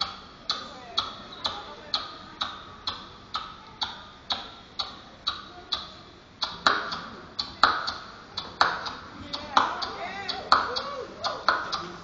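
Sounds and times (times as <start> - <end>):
beatboxing into a microphone: 0.0 - 12.0.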